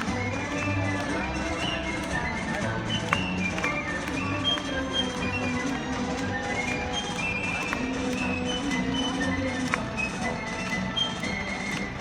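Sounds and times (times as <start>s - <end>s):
live orchestral music: 0.0s - 12.0s.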